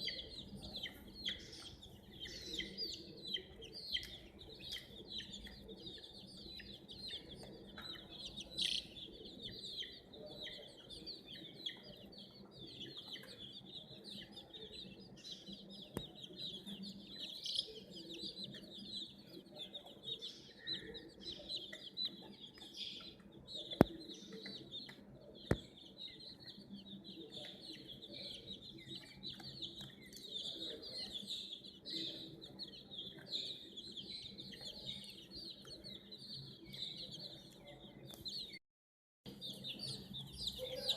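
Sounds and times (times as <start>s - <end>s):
baby chicks peeping: 0.0s - 38.6s, 39.3s - 40.9s.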